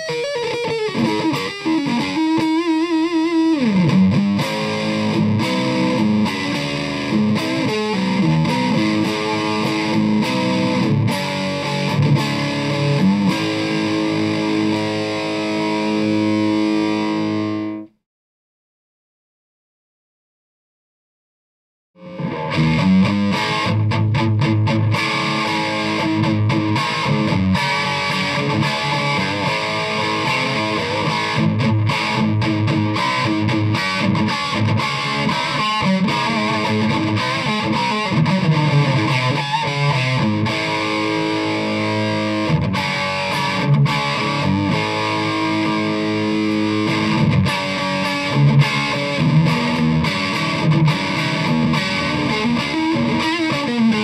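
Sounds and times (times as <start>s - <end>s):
electric guitar playing: 0.0s - 18.0s, 22.0s - 54.0s.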